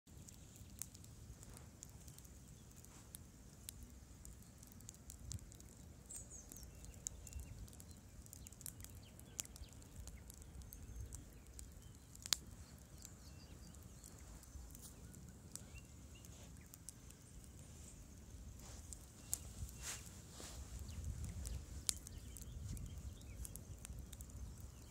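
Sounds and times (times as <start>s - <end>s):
campfire crackling: 0.1s - 24.9s.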